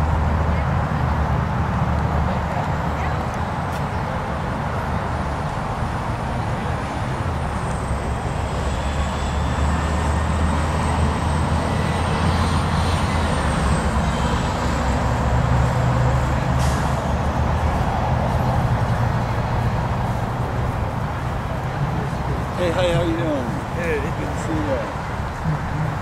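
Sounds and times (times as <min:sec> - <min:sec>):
traffic hum: 0:00.0 - 0:26.0
vehicle engine rumbling: 0:00.0 - 0:26.0.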